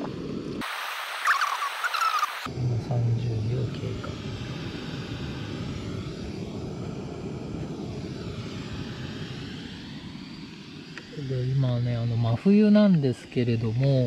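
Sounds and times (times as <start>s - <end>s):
gas burner flame rushing: 0.0s - 14.0s.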